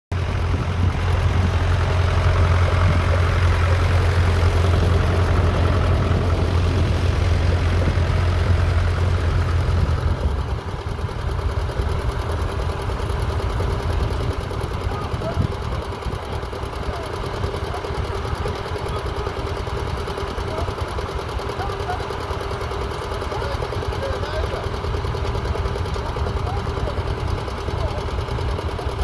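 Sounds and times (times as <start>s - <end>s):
tractor engine running under load: 0.1s - 29.0s.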